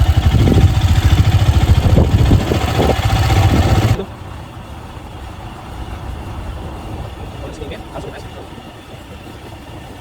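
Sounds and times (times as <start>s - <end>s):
road noise on rough road: 0.0s - 10.0s
vehicle engine running: 0.0s - 10.0s.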